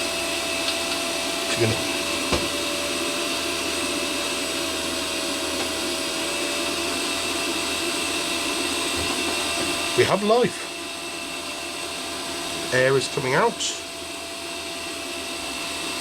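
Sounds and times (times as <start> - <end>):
heater fan motor whirring: 0.0 - 16.0.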